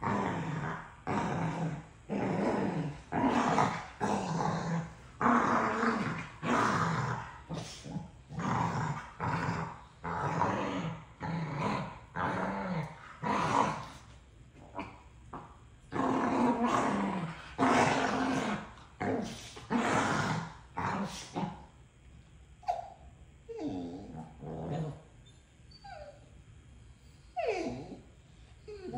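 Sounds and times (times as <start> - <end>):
dog growling: 0.0 - 21.7, 23.5 - 25.2, 27.3 - 28.9.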